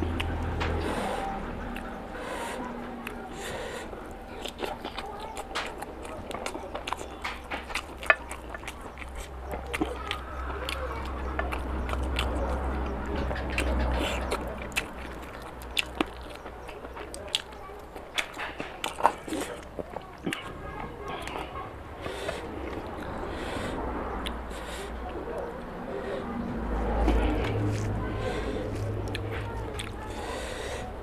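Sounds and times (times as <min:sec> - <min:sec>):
wet chewing and mouth clicks: 0:00.0 - 0:25.7, 0:26.6 - 0:31.0.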